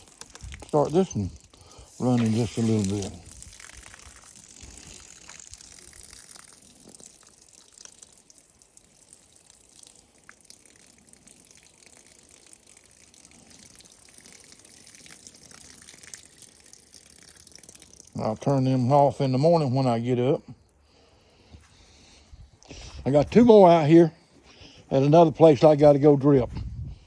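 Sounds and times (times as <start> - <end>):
faint trickle of water from faucet: 0.0 - 23.7.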